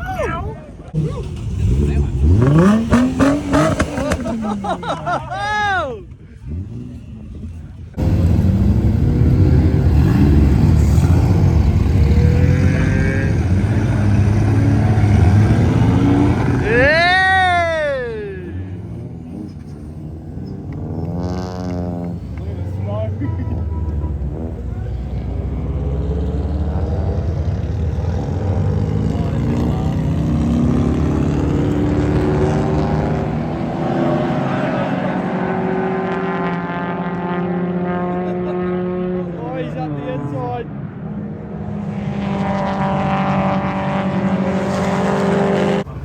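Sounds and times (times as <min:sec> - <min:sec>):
race car engines droning: 0:00.0 - 0:46.0
race car accelerating: 0:00.8 - 0:05.4, 0:06.1 - 0:46.0.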